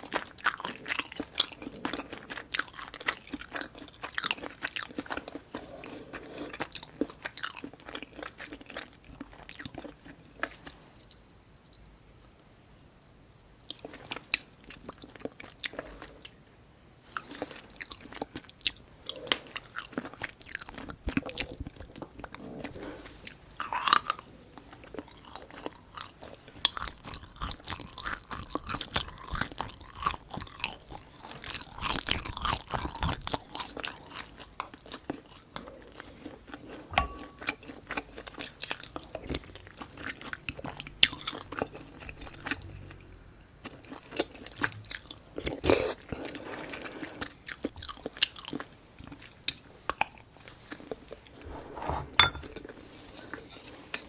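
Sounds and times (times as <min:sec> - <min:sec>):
person chewing food: 0:00.0 - 0:11.2, 0:13.7 - 0:16.5, 0:17.1 - 0:51.8.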